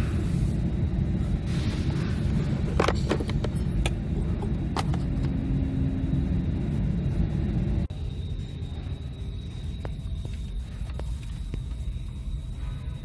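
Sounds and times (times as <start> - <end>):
low rumble in vehicle cabin: 0.0 - 13.0.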